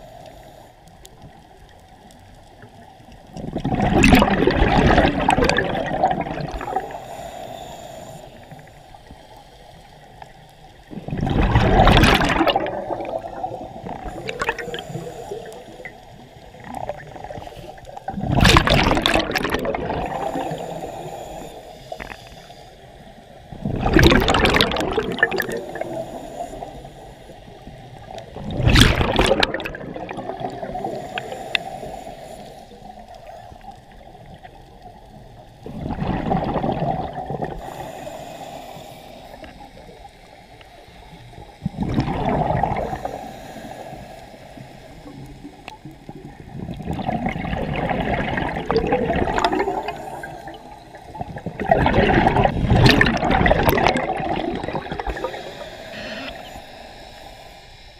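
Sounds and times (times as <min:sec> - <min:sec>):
steady hiss and bubbling: 0:00.0 - 0:57.9.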